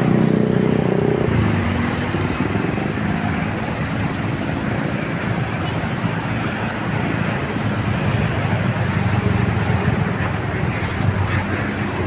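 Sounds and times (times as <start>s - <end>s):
highway traffic rumble: 0.0s - 12.0s.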